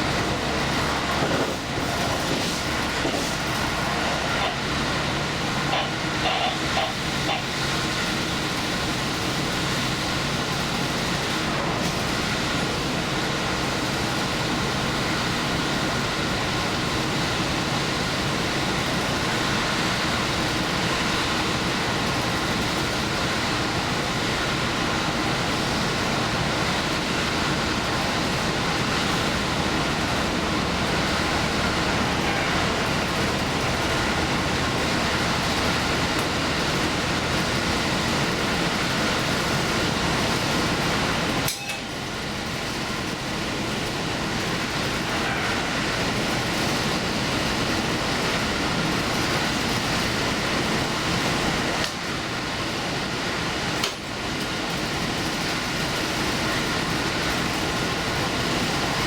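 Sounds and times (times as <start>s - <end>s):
diesel train rumbling on rails: 0.0s - 59.0s.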